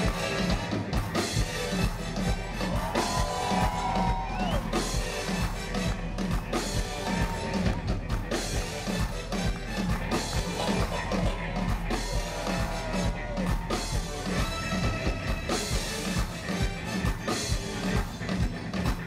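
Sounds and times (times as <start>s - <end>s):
drum kit beat: 0.0s - 19.0s
electric bass: 0.0s - 19.0s
funk band playing: 0.0s - 19.0s.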